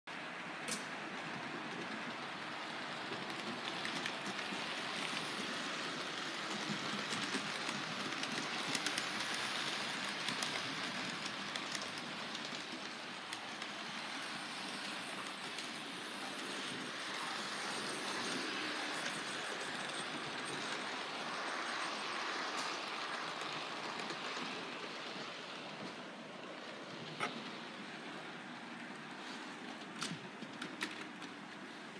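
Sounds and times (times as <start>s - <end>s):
model trains rumbling on track: 0.2s - 31.9s.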